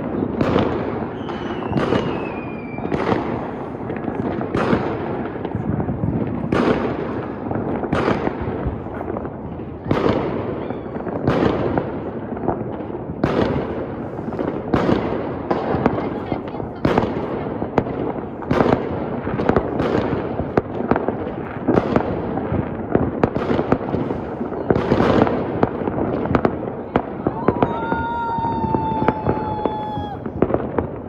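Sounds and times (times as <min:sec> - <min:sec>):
firework crackling: 0:00.0 - 0:31.0
firework shells exploding: 0:00.0 - 0:31.0.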